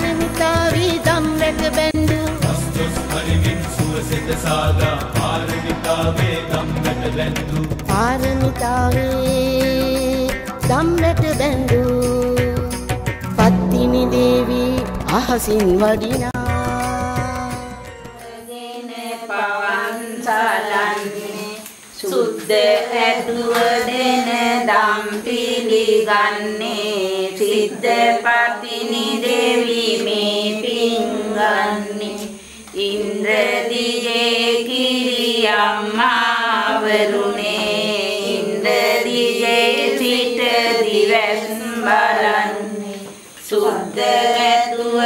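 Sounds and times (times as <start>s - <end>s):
person singing unaccompanied hymn: 0.0s - 45.0s.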